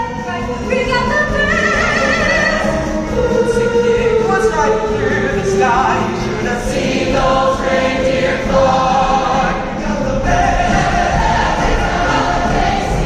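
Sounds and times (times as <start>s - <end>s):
instrumental accompaniment: 0.0s - 13.0s
large choir singing: 1.4s - 13.0s.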